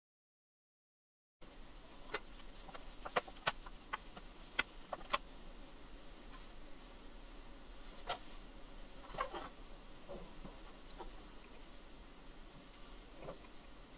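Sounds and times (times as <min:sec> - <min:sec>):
faint background hiss: 0:01.4 - 0:13.9.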